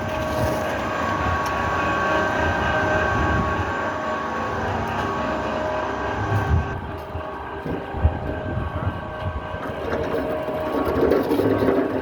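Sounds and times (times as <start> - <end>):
brick press machine hum: 0.0 - 12.0
low rumble: 0.0 - 12.0.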